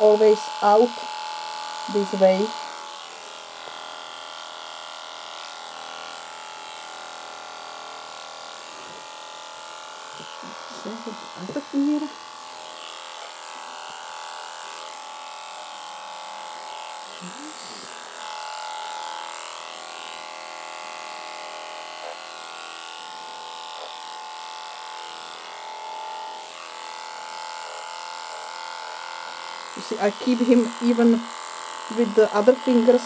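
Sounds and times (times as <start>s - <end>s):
electric clipper buzzing: 0.0s - 33.0s.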